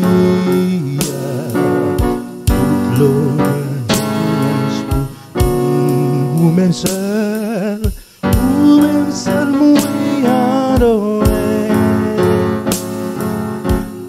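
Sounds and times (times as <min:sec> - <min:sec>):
person singing: 0:00.0 - 0:12.9
electronic keyboard chords: 0:00.0 - 0:14.0.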